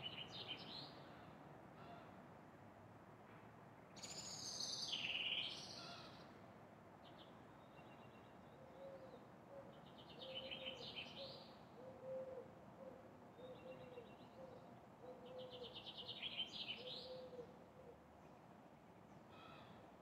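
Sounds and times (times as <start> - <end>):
faint city noise: 0.0 - 20.0.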